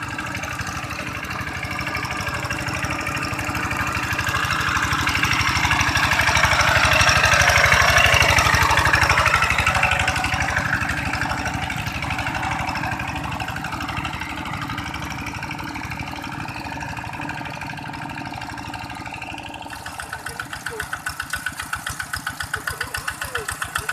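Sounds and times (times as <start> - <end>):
diesel engine running: 0.0 - 23.9
wheels ploughing through mud: 0.0 - 23.9.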